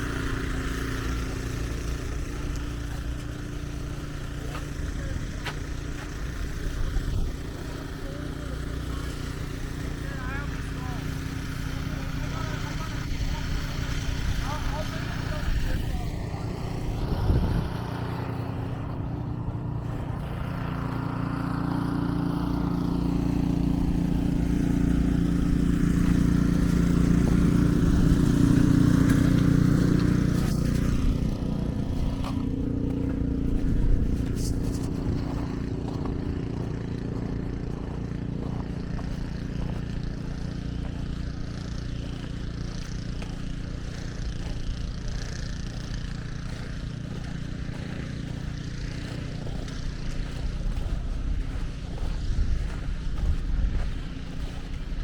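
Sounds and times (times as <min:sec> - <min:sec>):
low outdoor rumble: 0:00.0 - 0:55.0
passing engine droning: 0:00.0 - 0:55.0.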